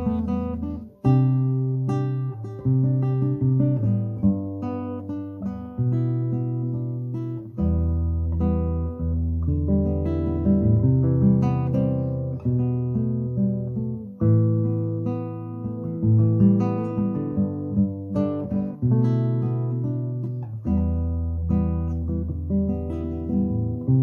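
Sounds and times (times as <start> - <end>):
solo acoustic guitar: 0.0 - 24.0.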